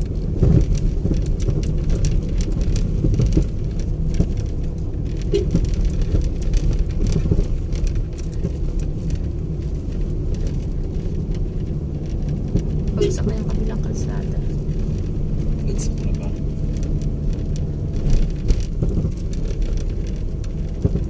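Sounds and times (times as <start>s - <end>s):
small ticks and rattles: 0.0s - 21.0s
vehicle rumbling on rough road: 0.0s - 21.0s.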